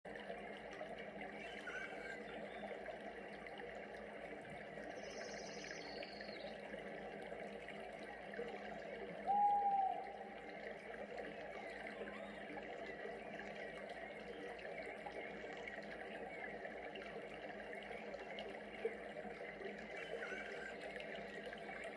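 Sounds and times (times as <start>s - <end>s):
running water: 0.1s - 21.9s.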